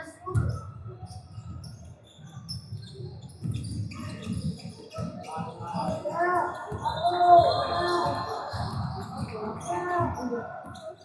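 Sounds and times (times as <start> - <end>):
sneakers squeaking on floor: 0.3 - 11.0.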